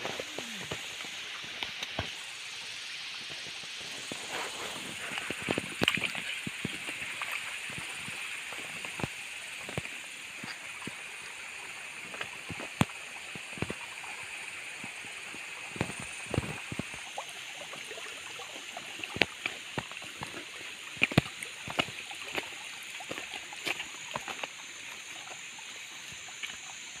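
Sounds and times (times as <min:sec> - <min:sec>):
water trickling in channel: 0:00.0 - 0:27.0.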